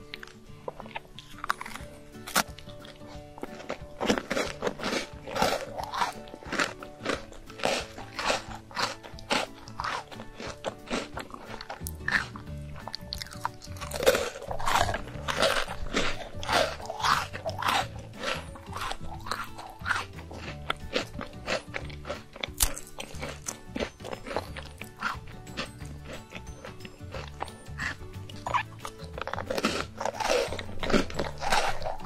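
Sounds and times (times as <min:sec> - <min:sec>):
background music: 0:00.0 - 0:32.0
crunching and chewing biscuits: 0:00.0 - 0:32.0.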